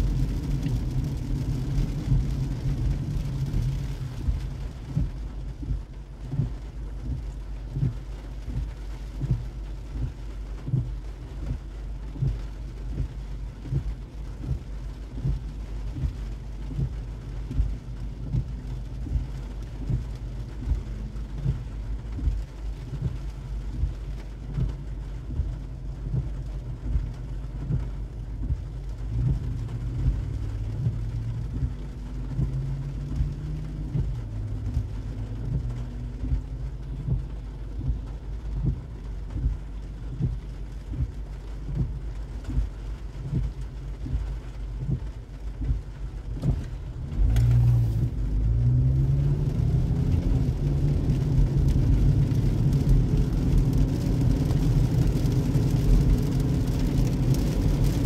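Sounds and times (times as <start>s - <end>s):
car rumbling: 0.0s - 58.0s
rain on car windshield: 0.0s - 58.0s
windshield wipers thumping: 0.1s - 58.0s.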